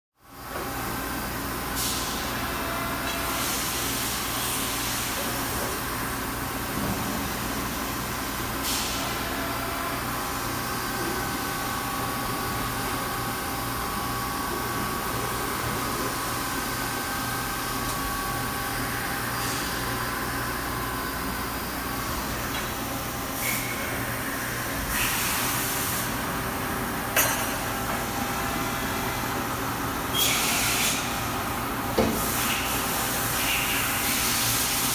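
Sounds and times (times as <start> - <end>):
machinery hum: 0.3 - 34.9.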